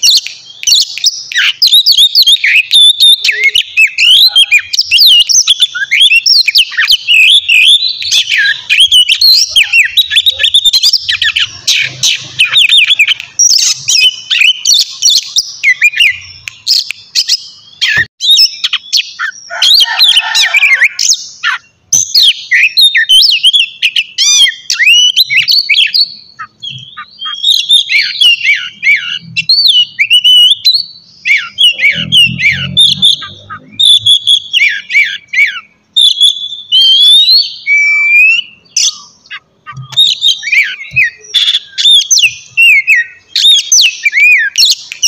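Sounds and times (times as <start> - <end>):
songbird singing whistles and chirps: 0.0 - 45.0.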